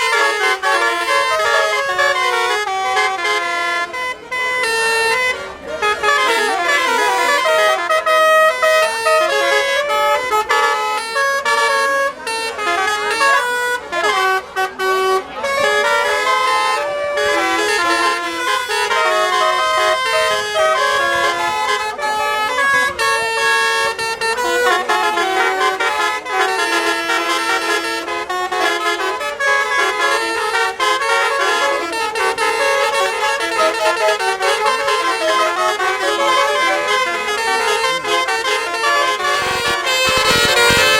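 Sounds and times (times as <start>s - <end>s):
bus horn playing a melody: 0.0s - 40.9s.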